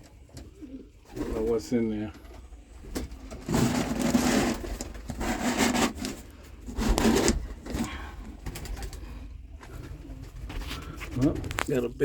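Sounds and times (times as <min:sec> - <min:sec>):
wood rubbing and scraping: 0:02.2 - 0:11.8.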